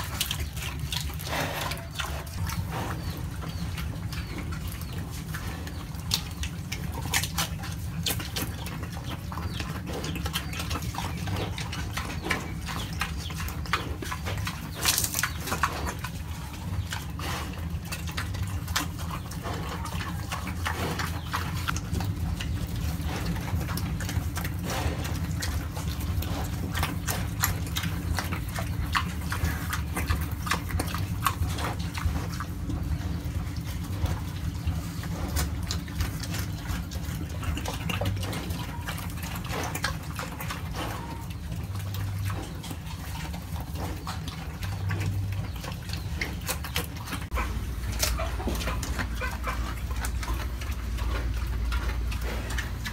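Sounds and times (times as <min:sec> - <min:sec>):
pig chewing vegetable stalks: 0:00.0 - 0:52.9.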